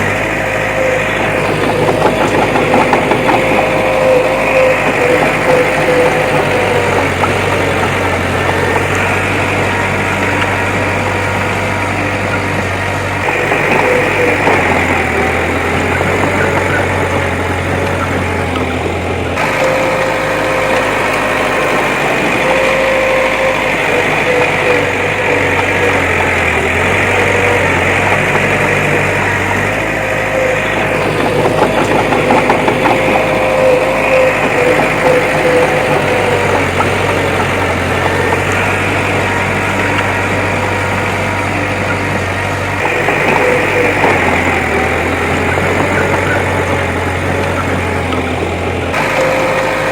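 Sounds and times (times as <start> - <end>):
diesel engine of heavy machine: 0.0 - 49.9.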